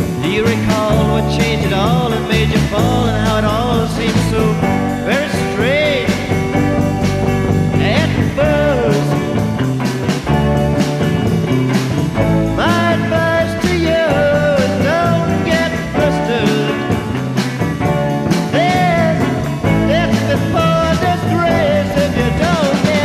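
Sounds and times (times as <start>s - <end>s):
bass guitar: 0.0s - 23.0s
drum hits: 0.0s - 23.0s
rock band recording: 0.0s - 23.0s
sliding lead guitar line: 0.0s - 23.0s.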